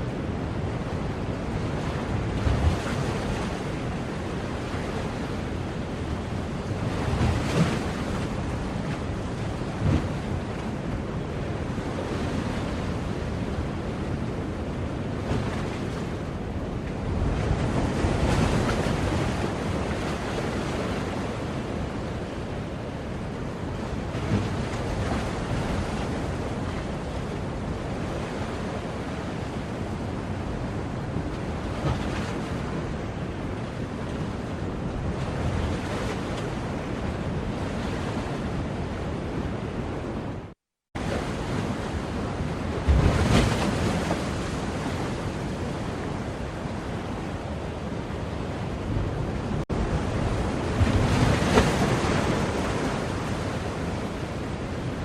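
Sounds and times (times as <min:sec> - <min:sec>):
waves washing onto shore: 0:00.0 - 0:55.0.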